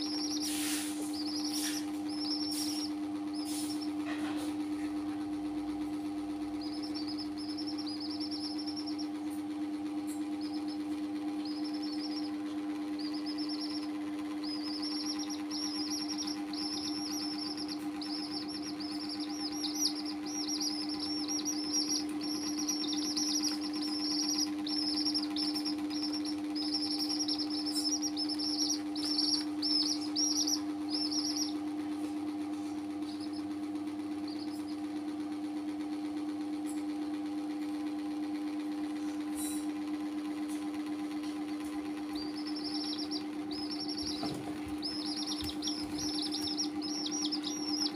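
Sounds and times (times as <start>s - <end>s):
chicks peeping: 0.0s - 36.2s, 37.5s - 47.9s
steady low hum: 0.0s - 47.9s.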